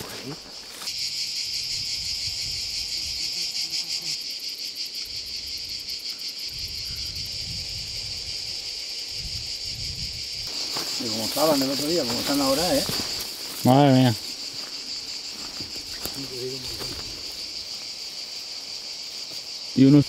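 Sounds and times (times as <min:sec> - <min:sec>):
insect chorus shrilling: 0:00.0 - 0:20.0.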